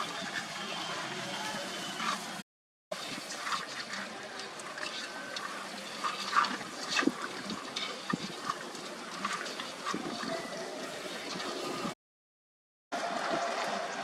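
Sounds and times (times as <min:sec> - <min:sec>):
water running and sloshing: 0:00.0 - 0:12.0.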